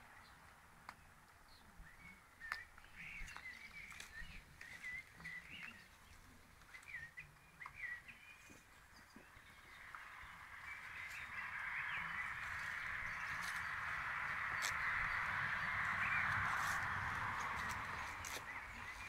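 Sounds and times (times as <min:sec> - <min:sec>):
chorus of birds calling: 0:00.0 - 0:19.0.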